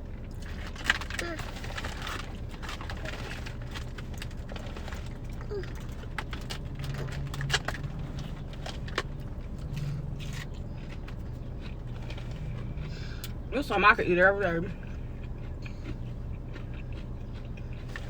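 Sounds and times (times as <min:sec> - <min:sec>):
chewing crunchy fried food: 0:00.0 - 0:18.0
steady low hum: 0:00.0 - 0:18.0.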